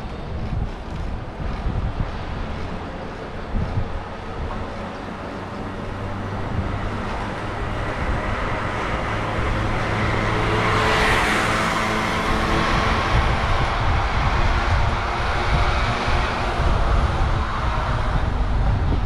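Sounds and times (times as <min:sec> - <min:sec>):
city street traffic: 0:00.0 - 0:19.0
wind rumble on microphone: 0:00.0 - 0:19.0
vehicle passing close by: 0:01.4 - 0:19.0.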